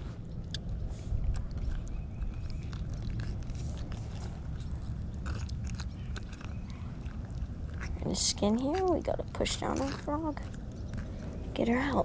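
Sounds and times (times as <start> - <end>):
low rumbling on microphone: 0.0 - 12.0.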